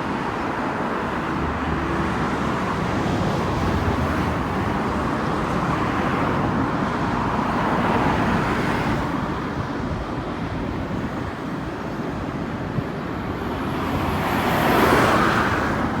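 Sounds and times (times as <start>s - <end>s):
outdoor traffic noise: 0.0s - 16.0s.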